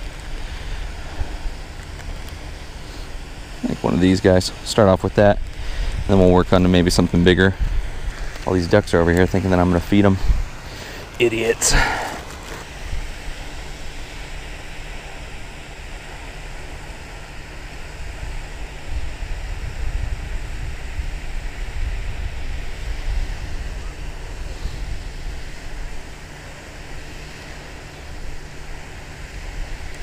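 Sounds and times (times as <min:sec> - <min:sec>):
wind on microphone: 0:00.0 - 0:12.1, 0:12.7 - 0:30.0.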